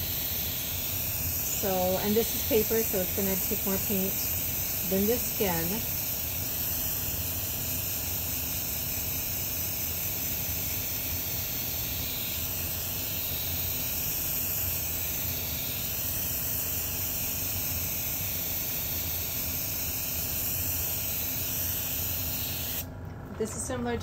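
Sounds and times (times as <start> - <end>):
airbrush spraying hiss: 0.0 - 22.8.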